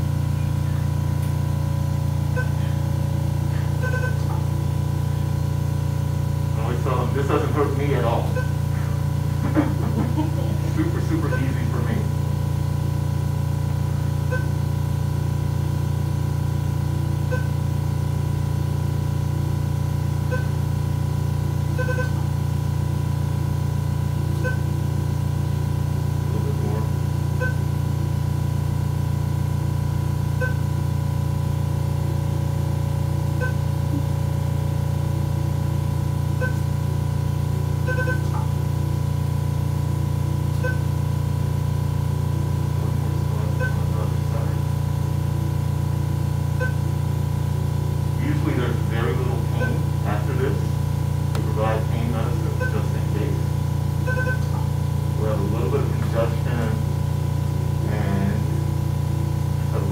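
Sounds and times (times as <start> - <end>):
steady low hum: 0.0 - 59.9
treatment console beeping: 0.1 - 57.0.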